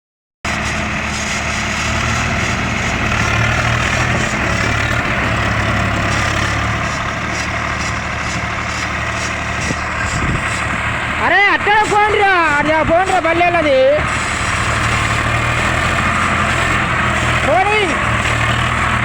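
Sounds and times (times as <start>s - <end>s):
tractor diesel engine running: 0.5s - 19.0s.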